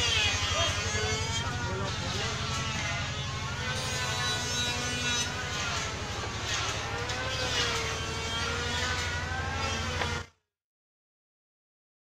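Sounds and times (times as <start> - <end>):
motor humming with whine: 0.0 - 10.4.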